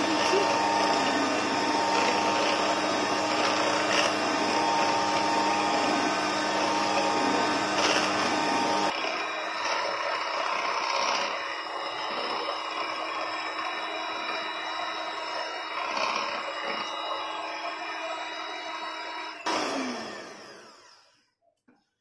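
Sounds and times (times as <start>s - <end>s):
electric hand mixer whipping cream: 0.0s - 21.3s.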